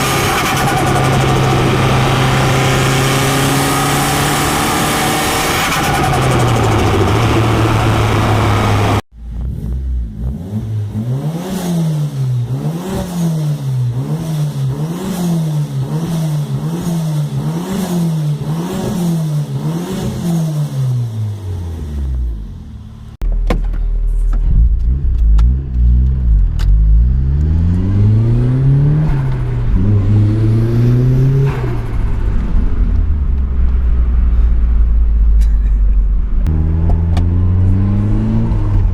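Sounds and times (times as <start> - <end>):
car engine revving: 0.0 - 23.2, 24.6 - 35.5, 36.3 - 38.9.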